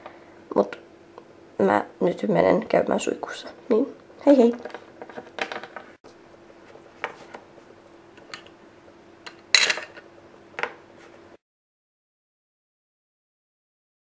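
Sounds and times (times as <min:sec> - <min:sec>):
faint steady hum: 0:00.0 - 0:11.4.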